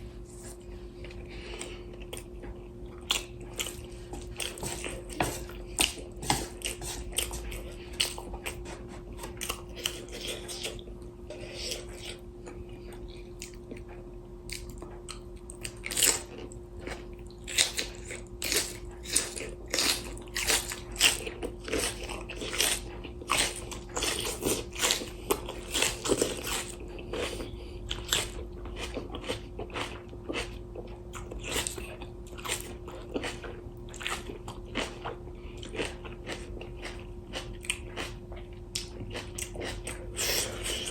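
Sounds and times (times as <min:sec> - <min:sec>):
chewing and crunching food: 0:00.0 - 0:40.9
steady low hum: 0:00.0 - 0:40.9.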